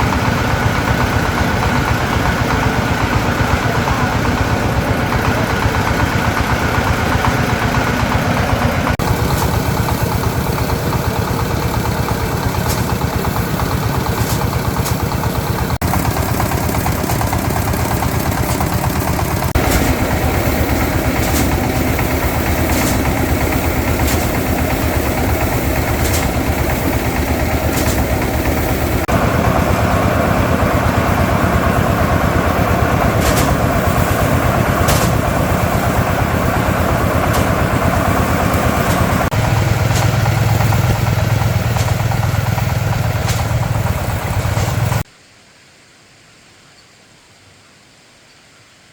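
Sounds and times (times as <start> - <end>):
small engine running: 0.0 - 45.0.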